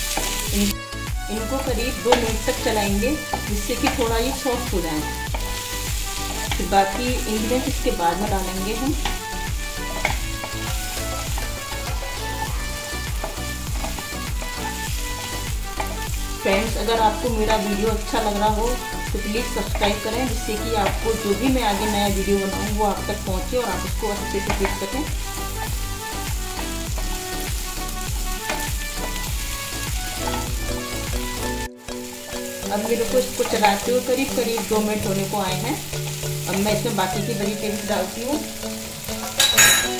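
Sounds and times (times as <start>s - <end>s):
wooden spatula stirring: 0.0s - 37.9s
background music with steady beat: 0.0s - 39.9s
vegetables sizzling in a wok: 0.0s - 39.9s.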